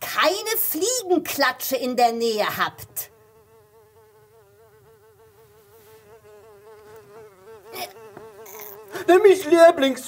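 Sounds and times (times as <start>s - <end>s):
housefly buzzing: 0.2s - 9.6s.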